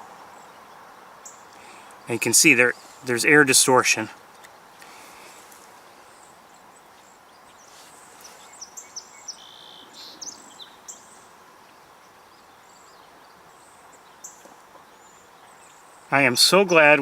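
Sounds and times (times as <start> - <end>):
bird chirping: 0.0 - 17.0
insect hum: 0.0 - 17.0.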